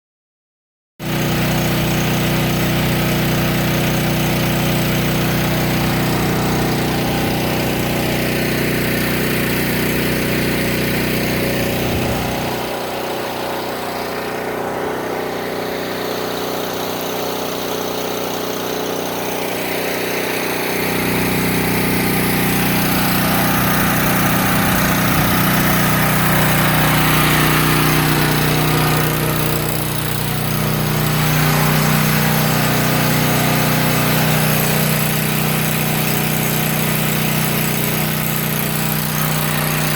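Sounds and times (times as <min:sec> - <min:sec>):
motor humming: 0:01.6 - 0:39.9.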